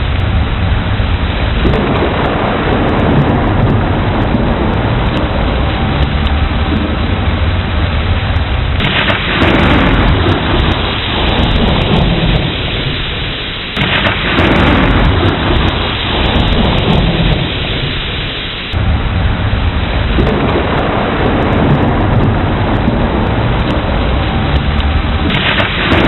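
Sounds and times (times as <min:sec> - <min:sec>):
heavy rain falling: 0:00.0 - 0:26.0
thunder rolling: 0:00.0 - 0:26.0.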